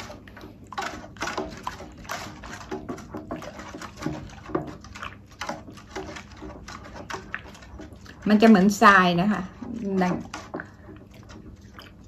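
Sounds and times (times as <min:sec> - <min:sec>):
spatula scraping metal bowl: 0:00.0 - 0:12.0.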